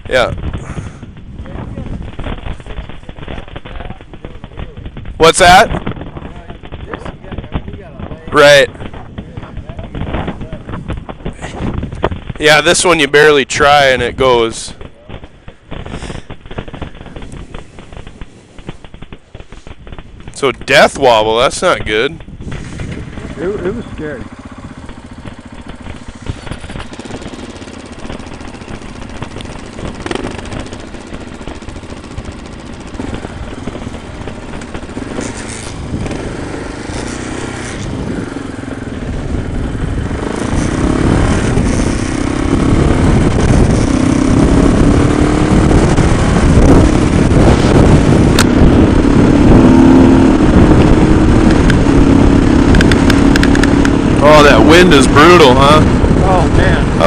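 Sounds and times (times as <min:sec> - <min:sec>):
motorcycle engine riding: 0:00.0 - 0:57.0
wind buffeting microphone: 0:00.0 - 0:57.0.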